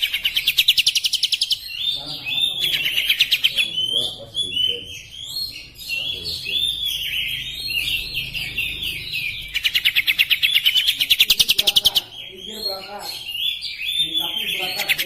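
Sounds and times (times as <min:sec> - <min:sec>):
bird singing varied song: 0:00.0 - 0:15.0.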